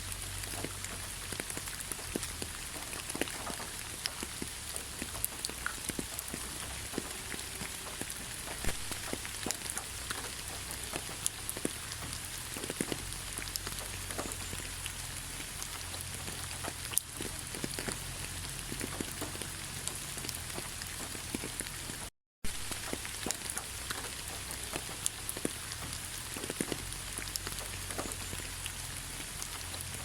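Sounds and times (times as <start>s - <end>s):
raindrops ticking close by: 0.0s - 30.0s
steady rain hiss: 0.0s - 30.0s.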